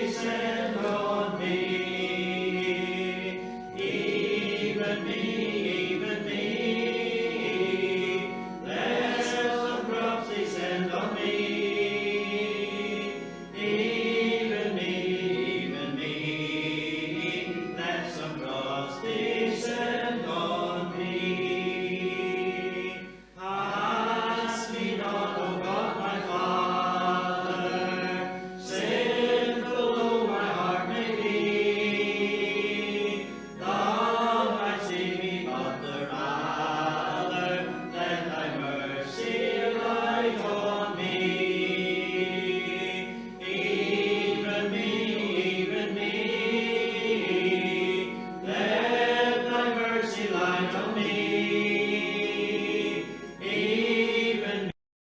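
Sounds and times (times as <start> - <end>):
voices singing worship song: 0.0 - 54.8.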